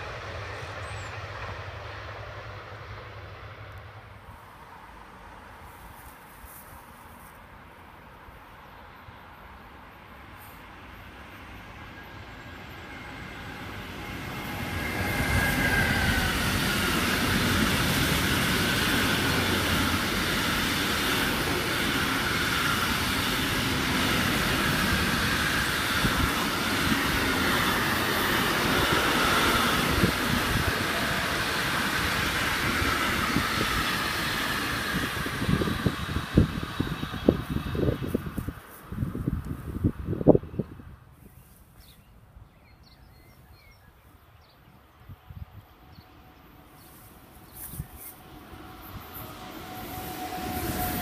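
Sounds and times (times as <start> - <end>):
train wheels rumbling on rails: 0.0 - 7.4, 9.7 - 41.1, 45.4 - 51.0.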